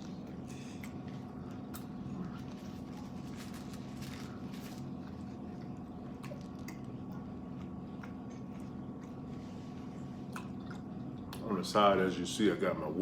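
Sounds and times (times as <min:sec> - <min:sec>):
person chewing food: 0:00.0 - 0:11.5
low hum: 0:00.0 - 0:12.3.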